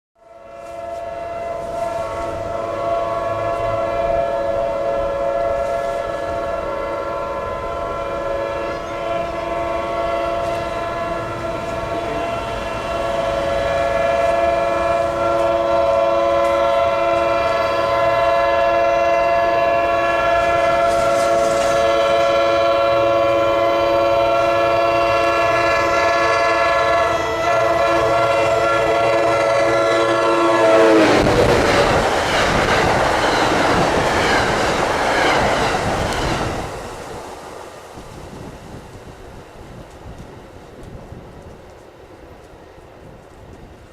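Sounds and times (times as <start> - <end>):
locomotive air horn blast: 0.2 - 37.0
rush of passing train: 0.2 - 43.9.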